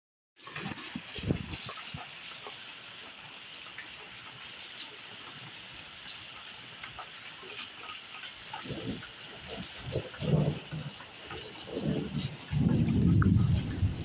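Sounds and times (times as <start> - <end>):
steady rain: 0.4 - 14.0.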